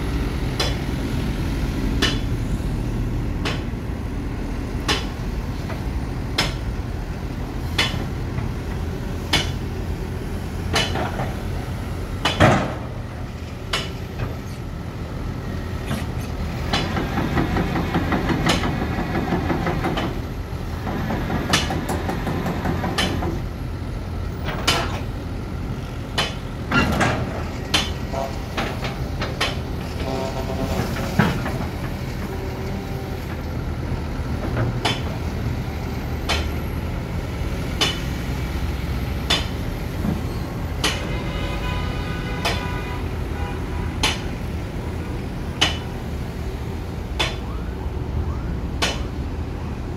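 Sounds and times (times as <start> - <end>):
excavator diesel engine drone: 0.0 - 49.9.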